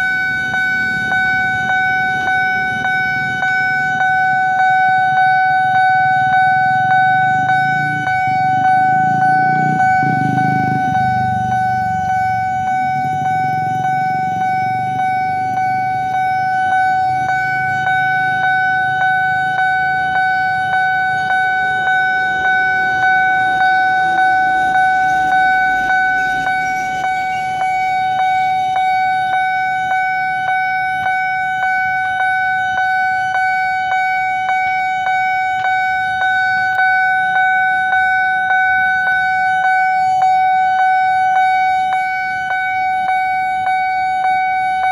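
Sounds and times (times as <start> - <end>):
vehicle engine rumbling: 0.0 - 44.8
level crossing alarm pulsing: 0.0 - 44.9.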